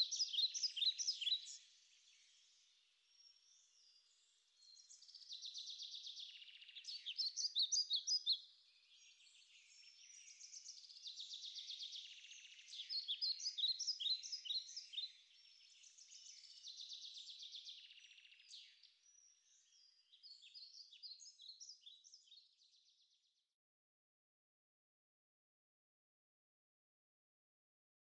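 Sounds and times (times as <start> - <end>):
songbirds chirping and twittering: 0.0 - 23.6.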